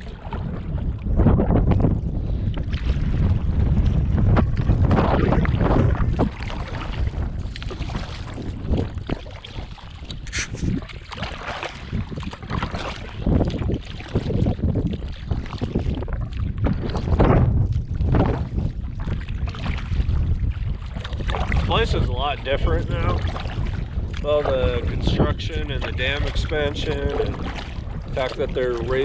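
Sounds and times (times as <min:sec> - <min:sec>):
water rushing around canoe: 0:00.0 - 0:29.0
wind buffeting microphone: 0:00.0 - 0:29.0.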